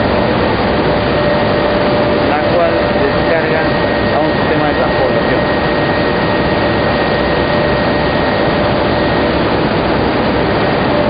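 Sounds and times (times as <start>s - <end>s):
faint steady whine: 0.0s - 11.0s
fan and airflow rush: 0.0s - 11.0s.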